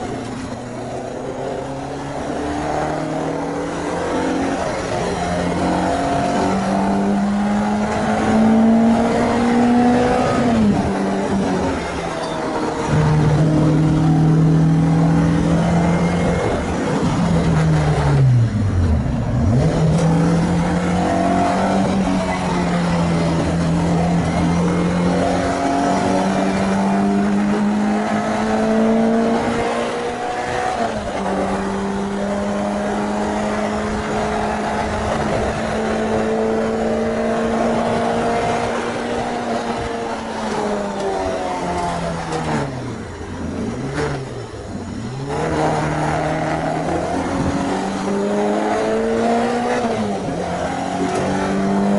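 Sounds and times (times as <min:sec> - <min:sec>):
car engine running hard: 0:00.0 - 0:51.9.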